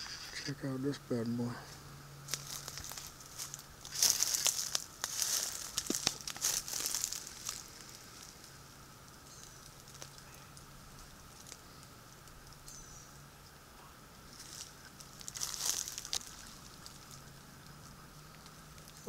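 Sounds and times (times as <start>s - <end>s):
snake crawling through dry leaves: 0.0s - 13.3s, 14.1s - 19.0s.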